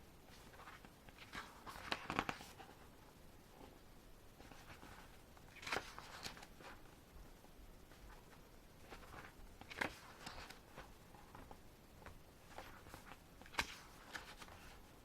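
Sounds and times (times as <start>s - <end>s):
paper pages rustling: 0.3s - 2.9s, 4.4s - 7.0s, 7.9s - 15.0s.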